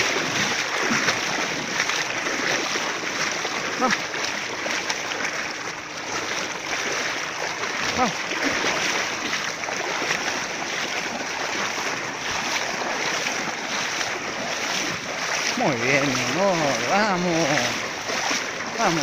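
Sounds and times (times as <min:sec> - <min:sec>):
dog splashing through water: 0:00.0 - 0:19.0.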